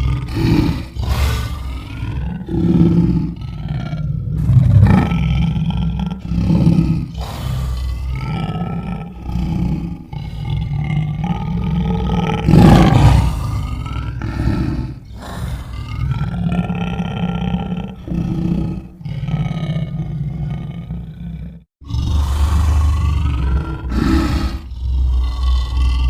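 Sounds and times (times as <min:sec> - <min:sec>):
lion roaring and growling: 0:00.0 - 0:26.0.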